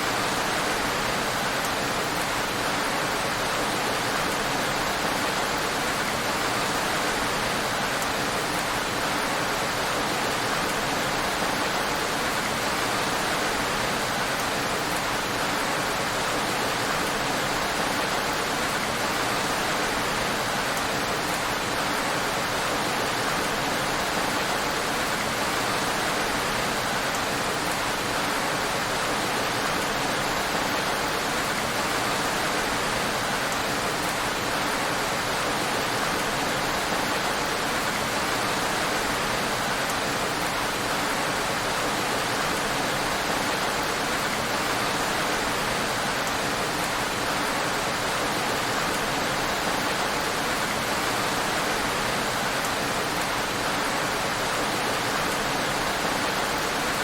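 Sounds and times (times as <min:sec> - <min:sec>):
heavy rain on a road: 0:00.0 - 0:57.0.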